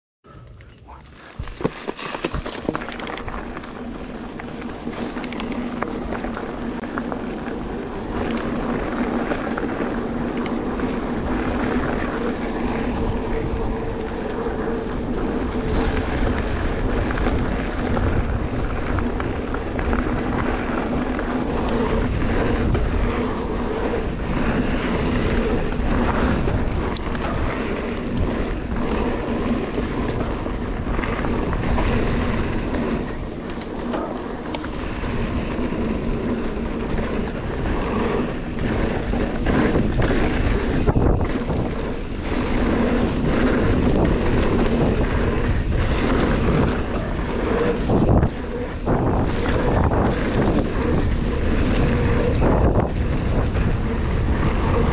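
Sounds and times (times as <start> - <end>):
bike tyres rolling on dirt: 0.3 - 54.9
wind noise on microphone: 0.3 - 54.9
bike clattering over bumps: 1.1 - 54.9.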